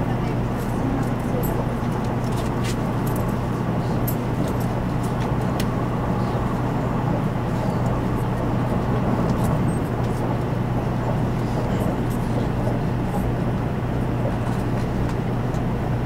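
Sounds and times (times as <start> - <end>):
constant low hum: 0.0 - 16.0
train running gear rumbling on rails: 0.0 - 16.0.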